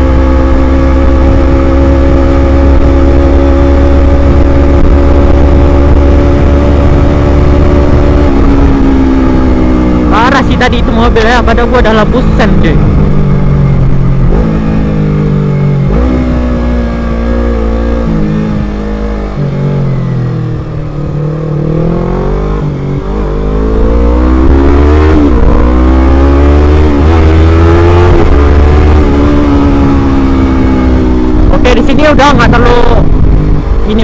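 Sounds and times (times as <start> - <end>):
motorcycle engine accelerating: 0.0 - 34.0
wind rumble on microphone: 0.0 - 34.0.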